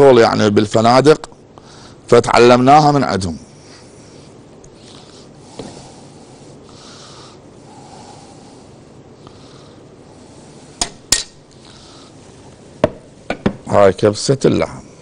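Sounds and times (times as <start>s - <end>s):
low steady background: 0.0s - 15.0s.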